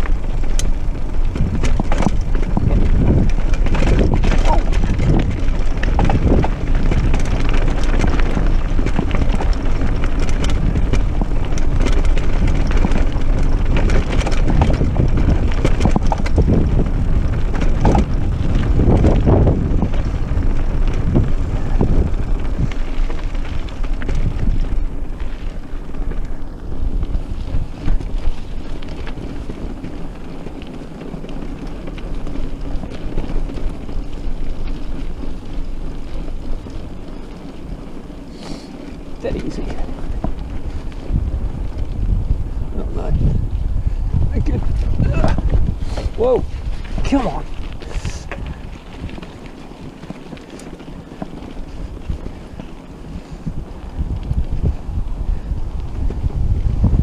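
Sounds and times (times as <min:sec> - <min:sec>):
mountain bike rattling over rough ground: 0:00.0 - 0:57.0
wind buffeting microphone: 0:00.0 - 0:57.0.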